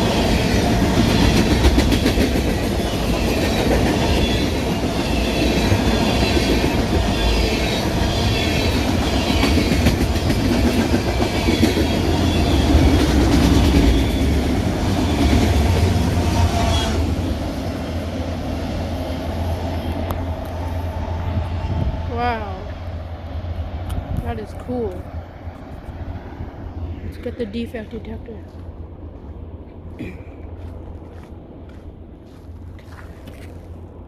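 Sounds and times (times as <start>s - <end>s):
steel wheels rumbling on rails: 0.0s - 32.8s
freight train cars rolling past: 0.0s - 34.0s.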